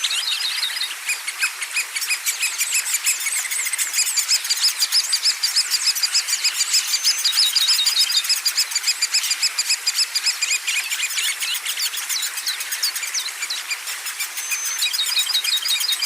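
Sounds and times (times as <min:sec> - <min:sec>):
songbirds chirping: 0:00.0 - 0:16.0
bird trill: 0:01.8 - 0:16.0.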